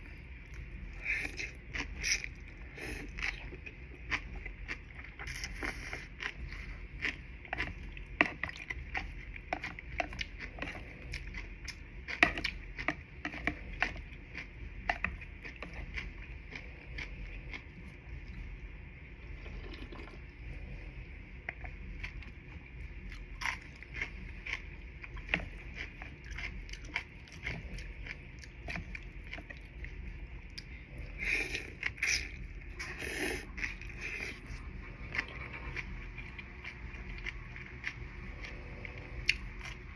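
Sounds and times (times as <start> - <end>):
wet chewing: 0.4 - 18.4, 21.5 - 39.9.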